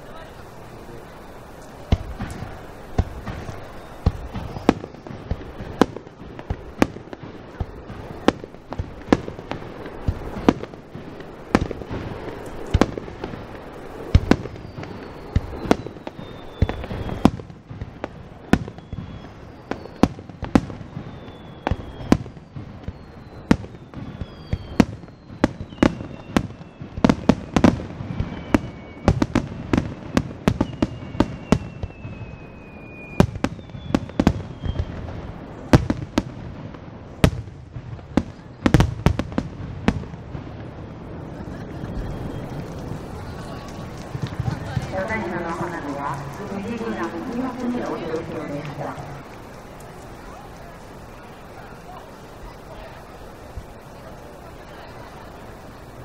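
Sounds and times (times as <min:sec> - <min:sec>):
falling firework whistles: 0:00.0 - 0:56.0
firework shells bursting: 0:00.0 - 0:56.0.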